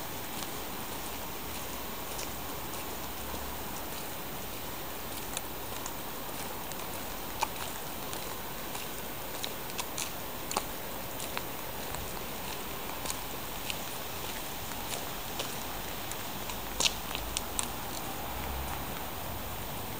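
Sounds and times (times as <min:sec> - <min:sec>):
steady rain on street: 0:00.0 - 0:19.9
close raindrop taps: 0:00.3 - 0:19.1.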